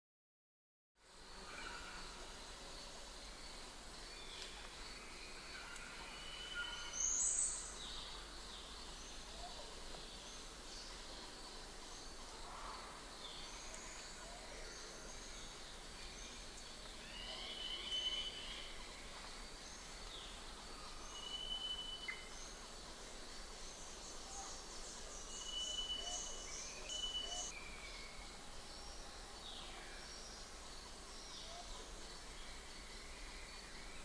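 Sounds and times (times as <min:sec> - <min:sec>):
soft background hiss: 0:01.0 - 0:34.0.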